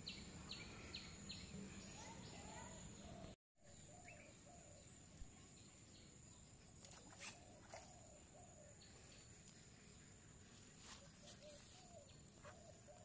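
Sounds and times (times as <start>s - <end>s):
soft bird chirps: 0.0s - 13.0s.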